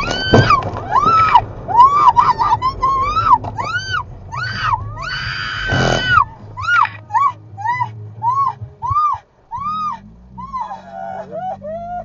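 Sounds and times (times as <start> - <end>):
low hum of car: 0.0 - 12.0
people screaming: 0.0 - 12.0.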